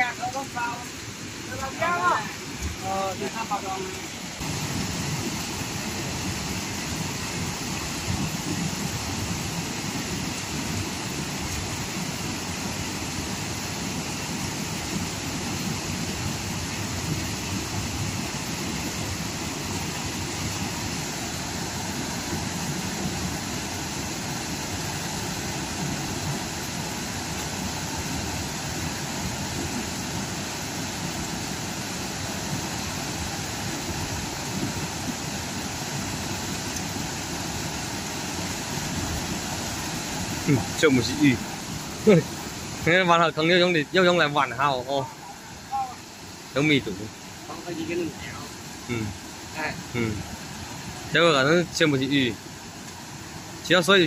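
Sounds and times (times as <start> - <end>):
rushing river water: 0.0 - 54.0.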